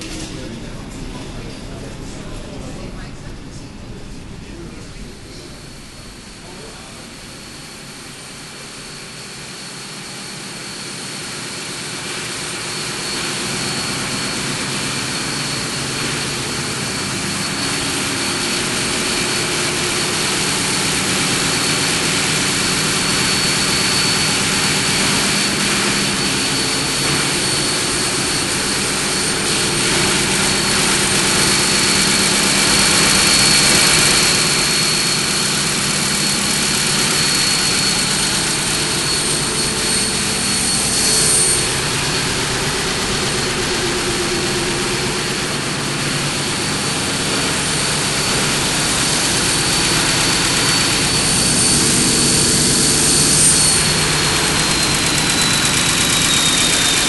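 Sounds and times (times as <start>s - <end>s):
ferry machinery din: 0.0s - 9.4s, 11.0s - 57.0s
constant high whine: 0.0s - 57.0s.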